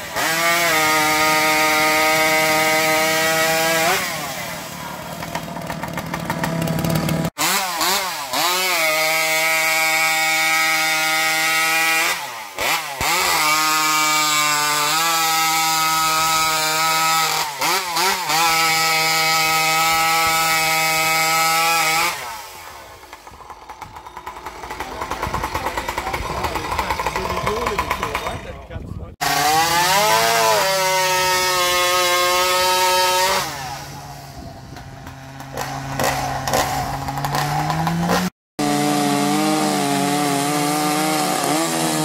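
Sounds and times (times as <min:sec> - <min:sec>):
chainsaw at high revs: 0:00.0 - 0:28.6, 0:29.2 - 0:42.0.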